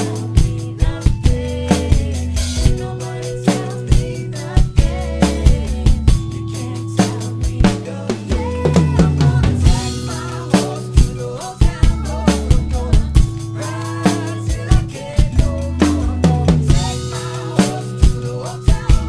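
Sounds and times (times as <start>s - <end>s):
backing music recording: 0.0s - 19.0s
drum kit groove: 0.0s - 19.0s.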